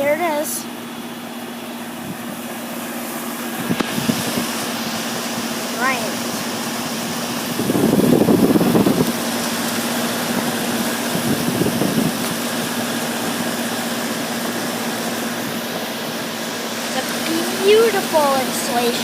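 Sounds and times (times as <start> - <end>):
compressor humming: 0.0 - 19.0
condenser fan rushing: 0.0 - 19.0.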